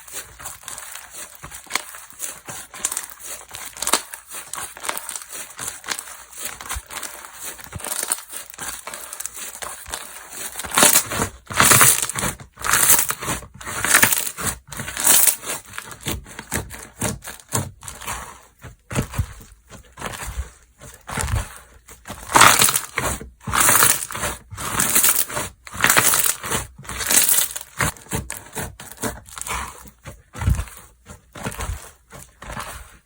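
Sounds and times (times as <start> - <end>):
slime squishes: 0.0 - 33.0.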